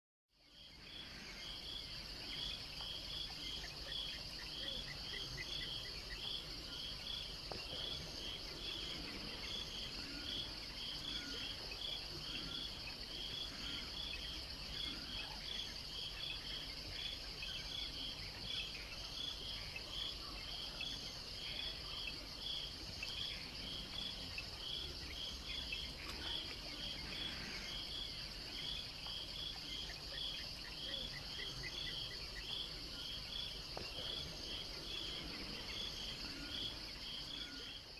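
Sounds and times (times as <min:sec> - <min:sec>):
insect chorus drone: 0:00.4 - 0:37.9.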